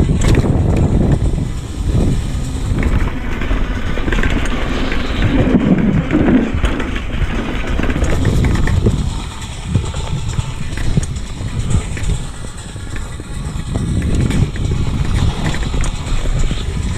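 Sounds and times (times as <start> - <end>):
bike rattling: 0.0 - 16.9
bike tyres rolling over dirt: 0.0 - 16.9
wind rumbling on microphone: 0.0 - 16.9.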